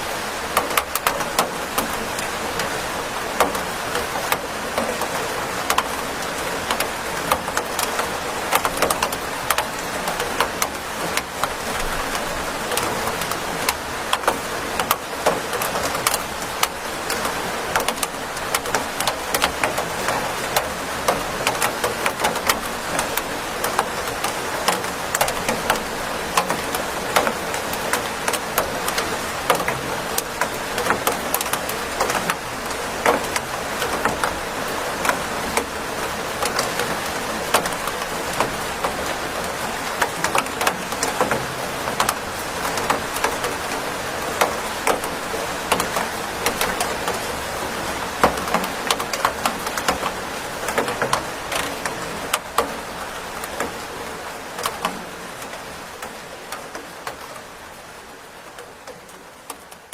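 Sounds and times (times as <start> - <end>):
rain hiss: 0.0 - 59.9
raindrops tapping on a surface: 0.1 - 59.9.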